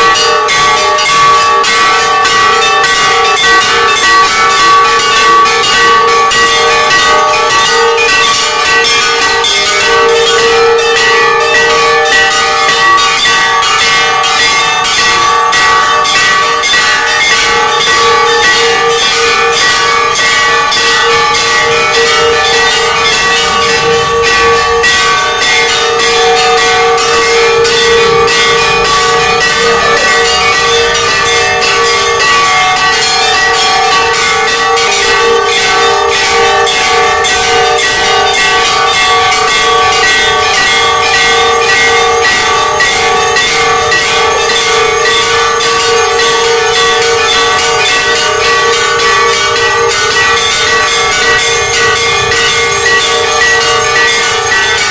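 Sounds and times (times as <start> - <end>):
temple bells ringing: 0.0 - 54.9.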